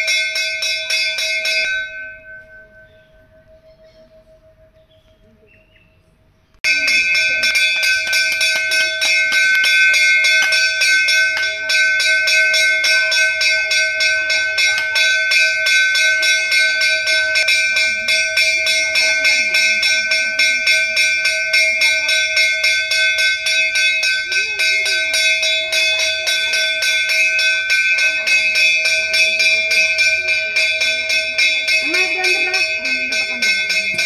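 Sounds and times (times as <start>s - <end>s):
hand bell ringing rapidly: 6.6s - 34.0s.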